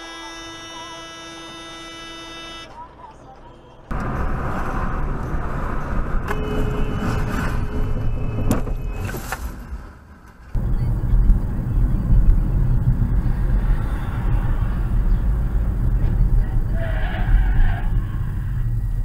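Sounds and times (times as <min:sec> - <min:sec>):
car road and engine noise: 0:00.0 - 0:19.0
low rumble of road noise: 0:00.0 - 0:19.0.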